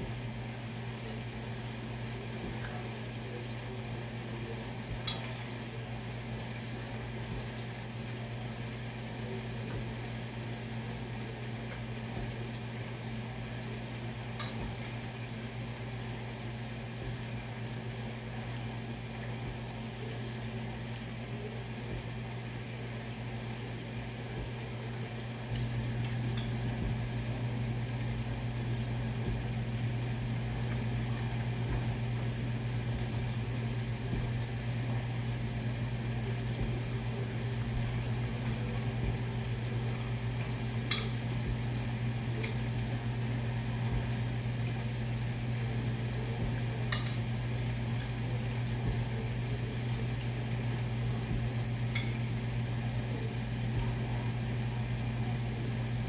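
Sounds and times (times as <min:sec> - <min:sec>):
kitchen appliance humming: 0:00.0 - 0:56.0.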